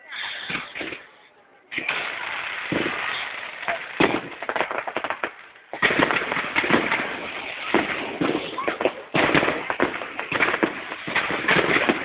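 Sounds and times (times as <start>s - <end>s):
fireworks crackling pops: 0.1s - 12.0s
firework bang: 1.7s - 12.0s.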